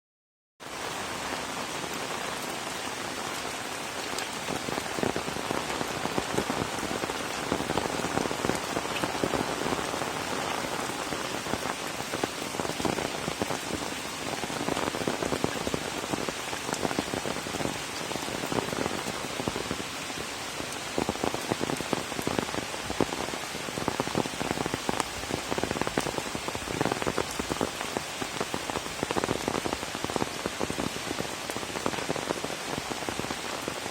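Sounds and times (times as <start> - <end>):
steady rain falling: 0.6 - 33.9.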